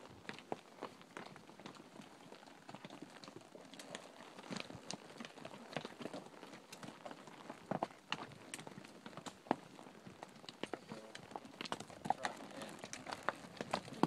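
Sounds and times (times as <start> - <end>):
hooves clip-clopping on stone: 0.0 - 14.0.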